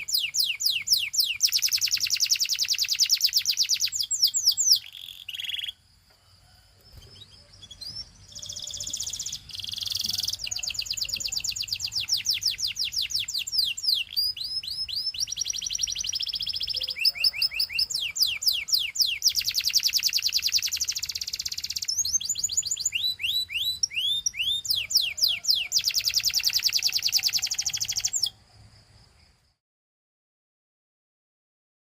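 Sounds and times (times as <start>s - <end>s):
canary singing trills: 0.0s - 5.9s, 6.5s - 28.4s.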